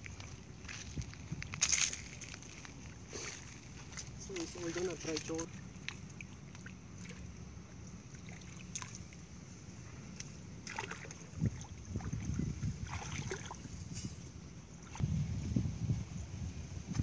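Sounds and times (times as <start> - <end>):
muddy water sloshing and splashing: 0.0 - 15.0
wind rumbling on microphone: 0.0 - 17.0.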